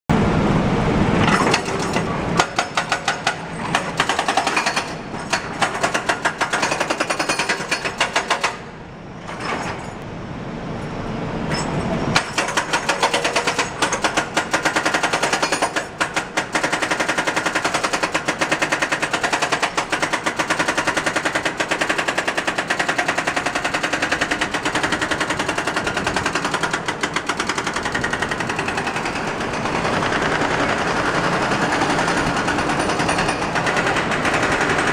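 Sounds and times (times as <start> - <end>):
hydraulic breaker hammering: 1.2 - 9.6, 12.2 - 34.9.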